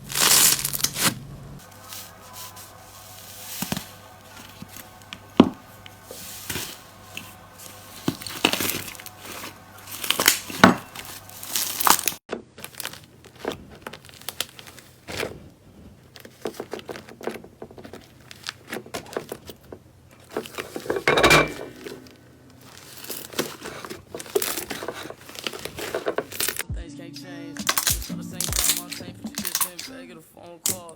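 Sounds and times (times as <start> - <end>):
slime crackling and squishing: 0.0 - 26.6, 27.6 - 29.9.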